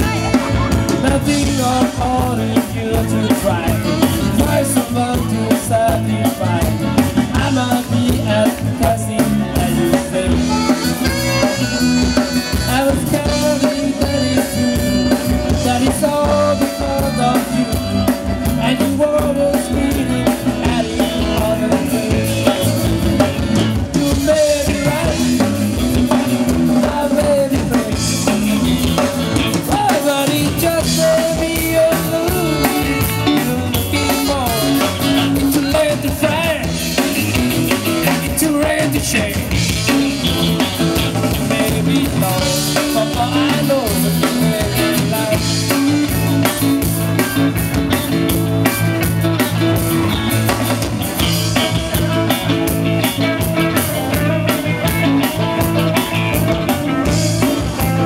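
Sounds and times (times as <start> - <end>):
person singing: 0.0 - 48.0
live country band playing: 0.0 - 58.0.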